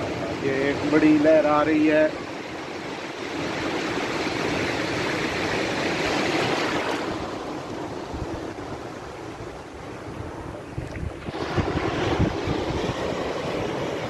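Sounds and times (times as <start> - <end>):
sea surf breaking: 0.0 - 14.0.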